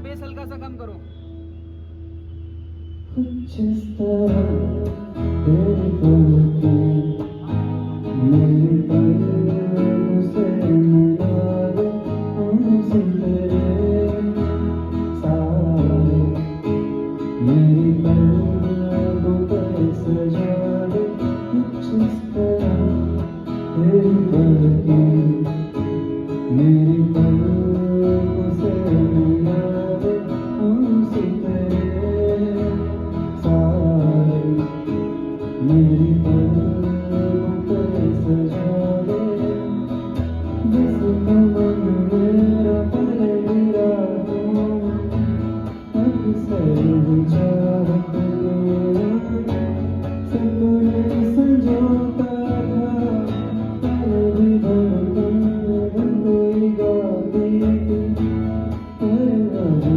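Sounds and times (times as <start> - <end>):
strummed guitar: 0.0 - 59.9.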